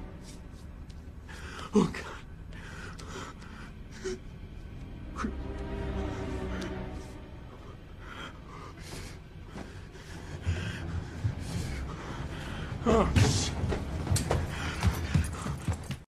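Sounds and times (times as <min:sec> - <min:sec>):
low film score drone: 0:00.0 - 0:16.0
person breathing heavily: 0:01.2 - 0:16.0.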